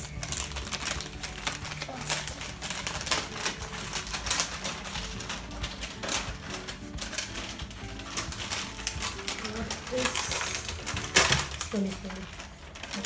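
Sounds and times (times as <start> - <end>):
wrapping paper tearing and crinkling: 0.0 - 13.0.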